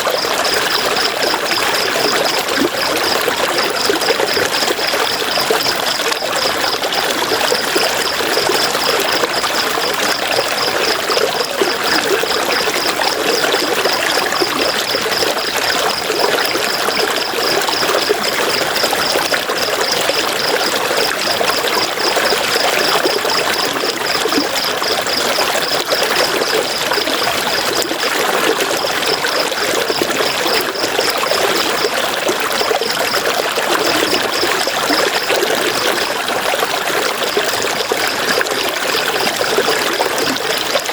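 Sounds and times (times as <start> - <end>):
river water flowing and splashing: 0.0 - 40.9.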